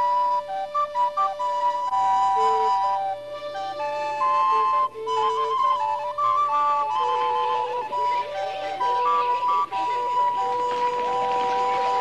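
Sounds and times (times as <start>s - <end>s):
slow instrumental melody: 0.0s - 12.0s.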